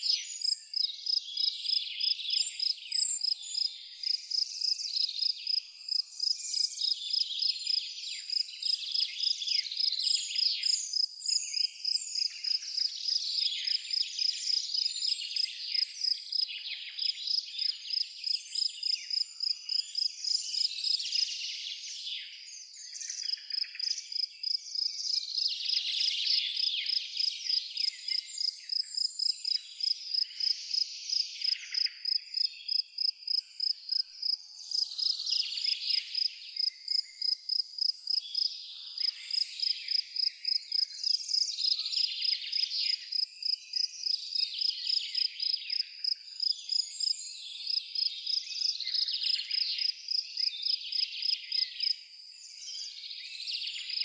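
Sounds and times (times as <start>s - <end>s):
birds singing and chirping: 0.0s - 54.0s
cricket chirping: 0.2s - 21.9s, 22.9s - 53.0s.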